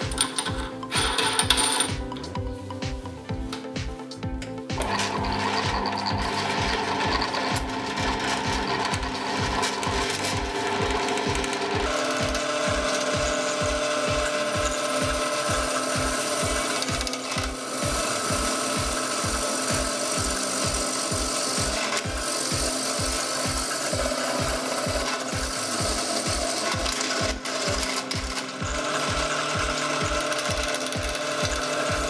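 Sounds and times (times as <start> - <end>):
drill press motor hum: 0.0 - 2.1, 4.8 - 32.0
drill bit scraping through steel: 4.8 - 32.0.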